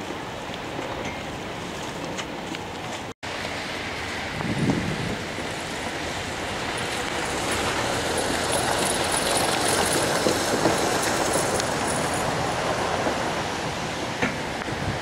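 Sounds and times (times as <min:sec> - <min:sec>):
rushing hiss of street noise: 0:00.0 - 0:15.0.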